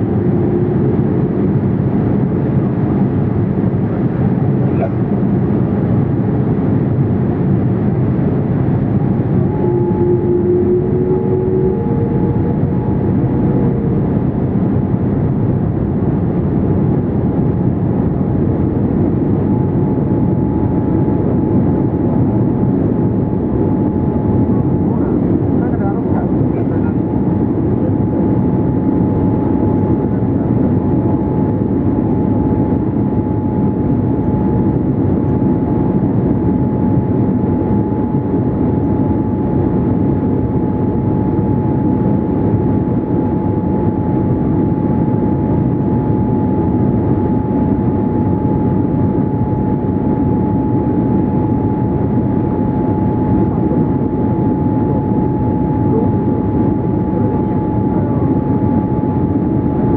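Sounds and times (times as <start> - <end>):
airplane cabin engine noise: 0.0 - 59.9
thin steady whine: 0.0 - 59.9.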